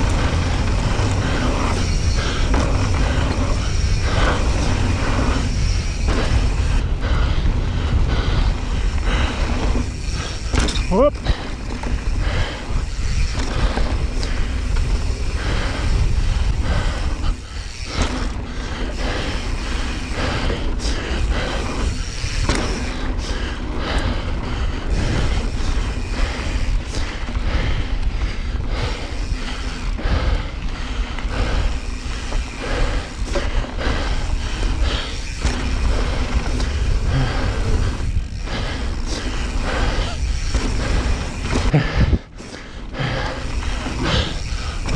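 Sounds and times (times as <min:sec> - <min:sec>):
bike rattling and knocking: 0:00.0 - 0:44.9
tyres on loose dirt: 0:00.0 - 0:44.9
wind buffeting microphone: 0:00.0 - 0:44.9.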